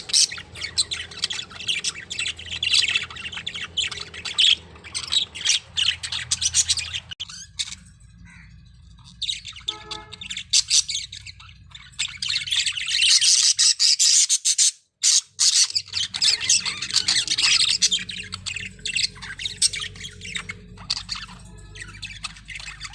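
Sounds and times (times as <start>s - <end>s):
parrots squawking and chattering: 0.0s - 22.9s.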